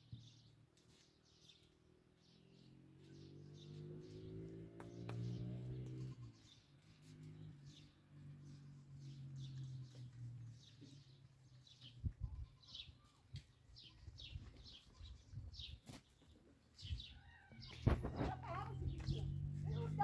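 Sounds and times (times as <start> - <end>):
small bird chirping: 0.0 - 20.0.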